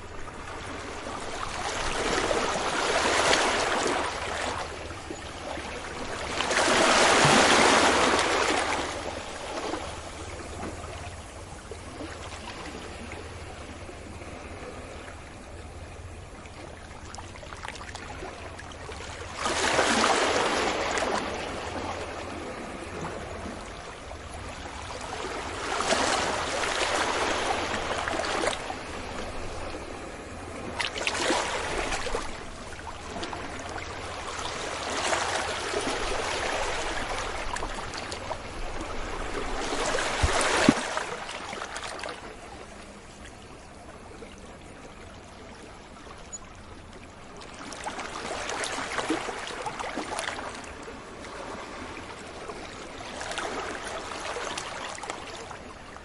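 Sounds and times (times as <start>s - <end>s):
sea waves breaking on beach: 0.0s - 15.0s, 16.2s - 42.7s, 47.3s - 56.0s.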